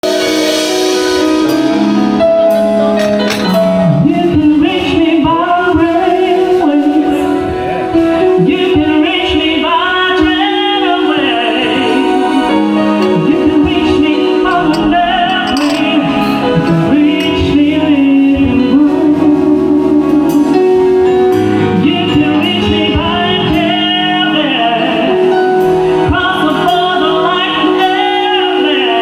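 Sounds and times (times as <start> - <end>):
live band holding chords: 0.0 - 8.7, 9.6 - 29.0.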